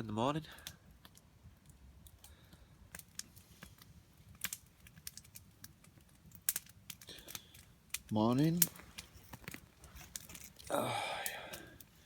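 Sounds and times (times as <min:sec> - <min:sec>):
campfire crackling: 0:00.0 - 0:12.0
low background hiss: 0:00.0 - 0:12.0.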